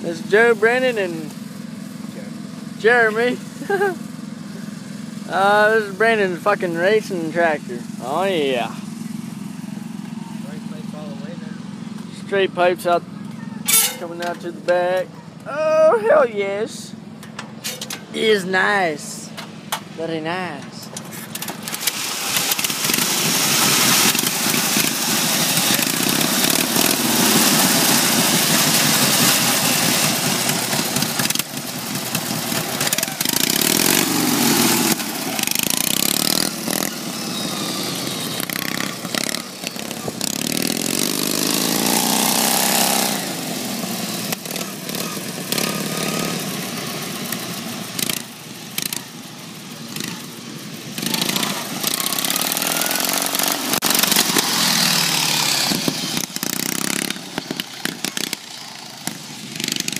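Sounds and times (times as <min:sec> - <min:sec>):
riding mower engine revving: 0:00.0 - 0:59.9.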